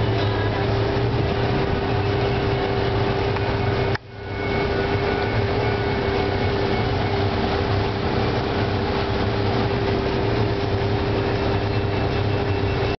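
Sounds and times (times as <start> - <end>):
motorboat engine droning: 0.0 - 13.0
rushing water noise: 0.0 - 13.0.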